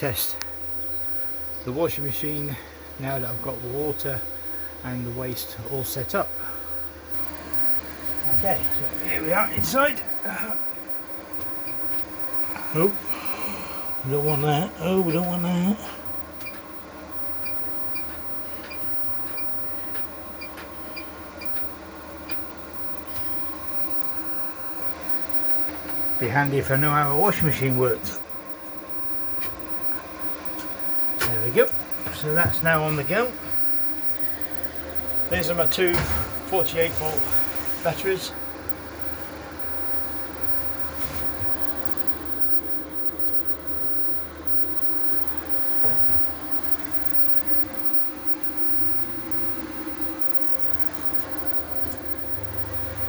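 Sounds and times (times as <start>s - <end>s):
background hum: 0.0s - 53.0s
washing machine beeps: 0.0s - 53.0s.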